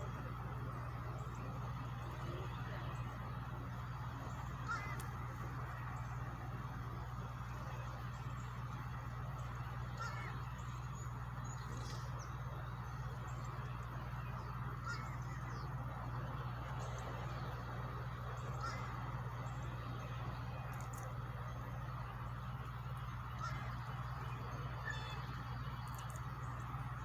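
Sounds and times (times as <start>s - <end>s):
short bird calls: 0.0s - 27.0s.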